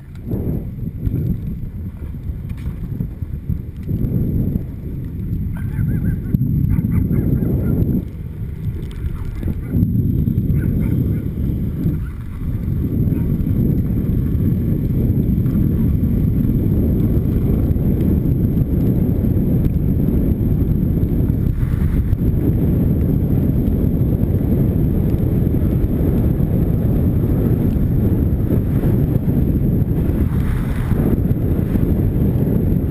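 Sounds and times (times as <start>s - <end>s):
skateboard wheels rolling on asphalt: 0.0s - 32.9s
wind buffeting microphone: 0.0s - 32.9s.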